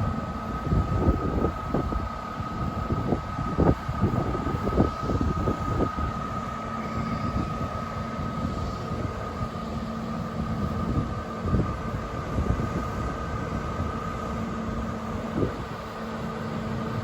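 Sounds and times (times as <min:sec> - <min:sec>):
constant high whine: 0:00.0 - 0:17.0
diesel engines idling: 0:00.0 - 0:17.0
wind buffeting microphone: 0:00.0 - 0:17.0.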